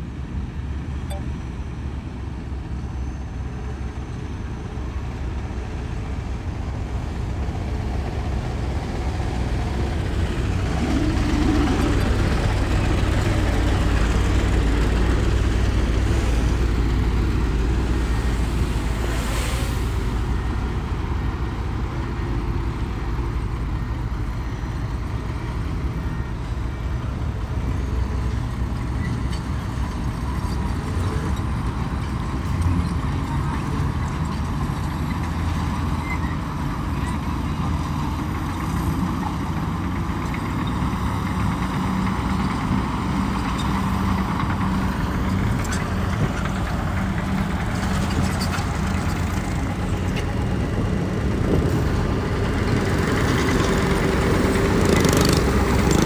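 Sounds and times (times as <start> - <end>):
diesel machinery engine rumble: 0.0 - 56.0.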